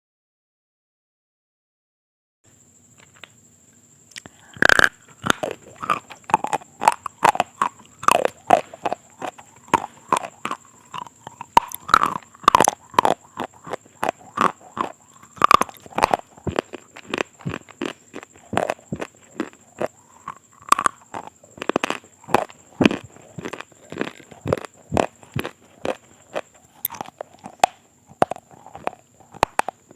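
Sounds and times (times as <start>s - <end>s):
person chewing crunchy food: 4.1s - 29.9s.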